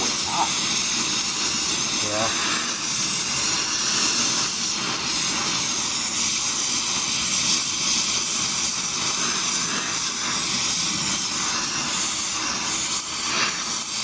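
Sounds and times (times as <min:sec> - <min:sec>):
blow torch flame hissing: 0:00.0 - 0:14.0.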